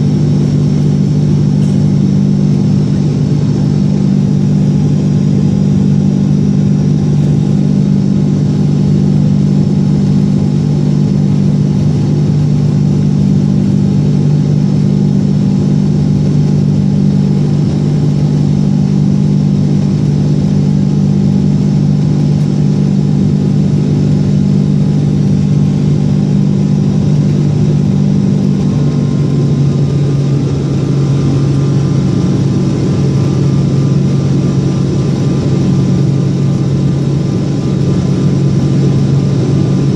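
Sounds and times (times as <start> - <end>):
jet engines roaring on takeoff: 0.0 - 39.9.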